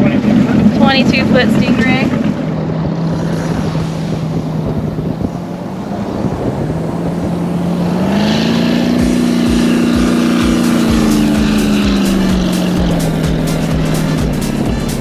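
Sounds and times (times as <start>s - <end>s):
motorboat engine running: 0.0s - 15.0s
water rushing past: 0.0s - 15.0s
wind rushing: 0.8s - 15.0s.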